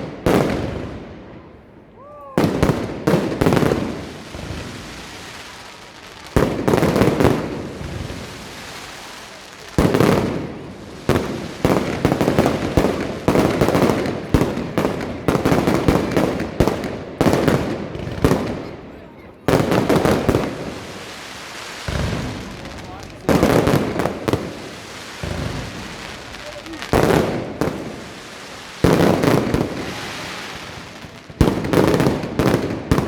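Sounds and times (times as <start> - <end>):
fireworks bursting with sharp bangs: 0.0 - 33.0.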